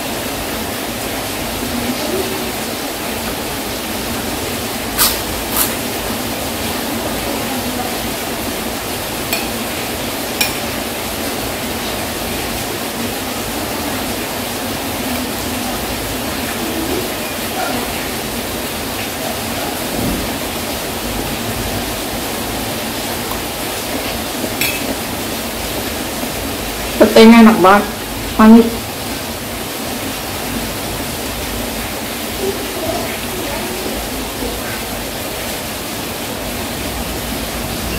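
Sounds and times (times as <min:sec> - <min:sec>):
heavy rain: 0:00.0 - 0:37.9.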